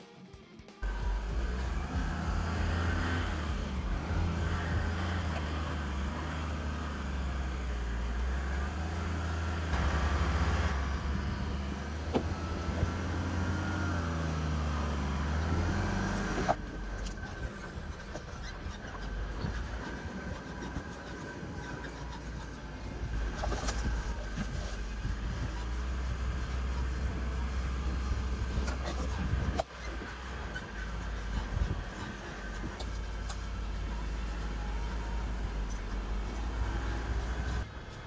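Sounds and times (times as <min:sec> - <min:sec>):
car engine drone: 0:00.8 - 0:38.0
road and tyre noise: 0:00.8 - 0:38.0.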